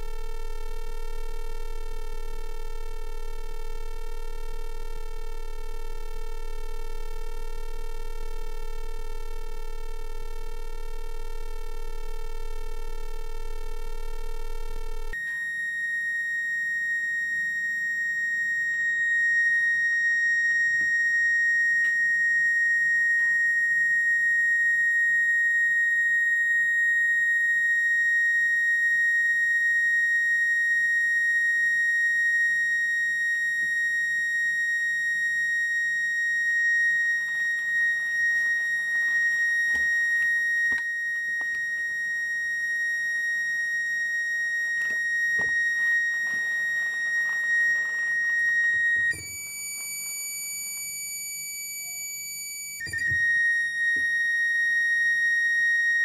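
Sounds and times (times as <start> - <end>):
high-pitched coil whine: 0.0 - 56.0.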